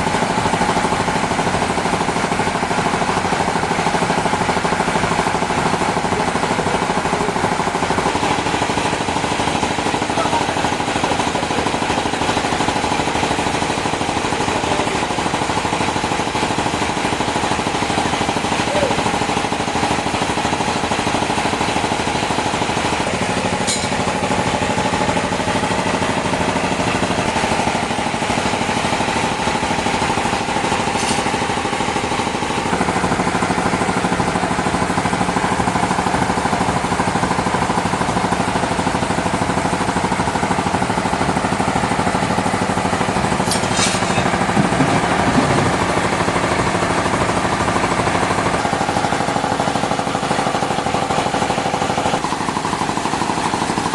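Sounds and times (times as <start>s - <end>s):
sawmill machinery rattling and humming: 0.0s - 53.9s.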